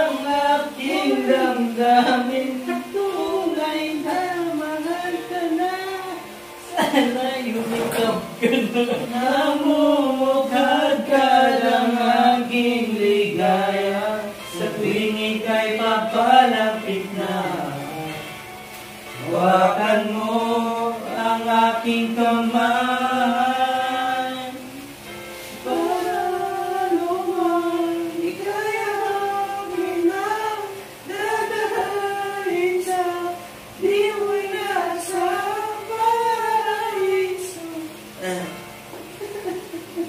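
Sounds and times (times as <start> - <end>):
music: 0.0 - 40.0
person singing slow song: 0.0 - 40.0.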